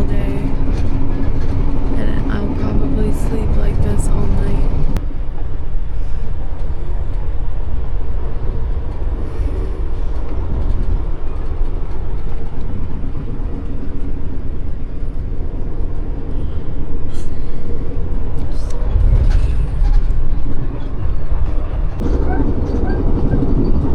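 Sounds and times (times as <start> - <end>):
train rumbling: 0.0 - 23.9.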